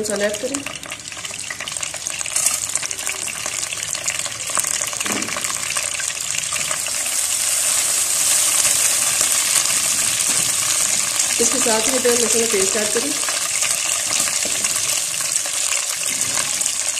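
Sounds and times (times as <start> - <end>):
spices sizzling in hot fat: 0.0 - 16.9.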